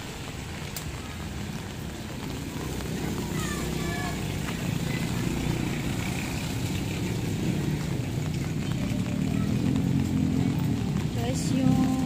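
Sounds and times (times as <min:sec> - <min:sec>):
traffic on a wet road: 0:00.0 - 0:12.0.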